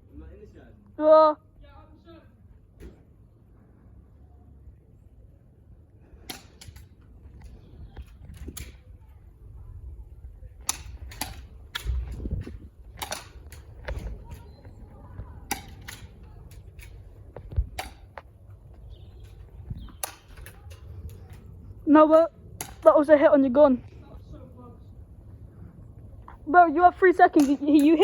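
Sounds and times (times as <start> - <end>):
low rumbling background noise: 0.0 - 28.0.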